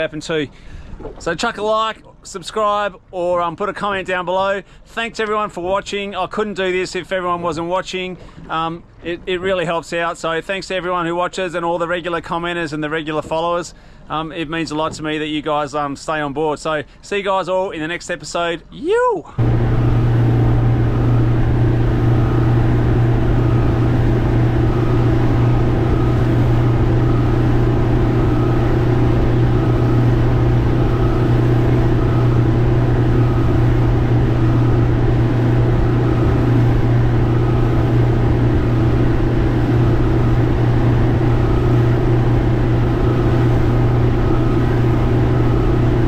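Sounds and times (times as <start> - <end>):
boat engine running: 0.0 - 15.5, 19.4 - 46.0
water and wind rushing: 0.0 - 46.0.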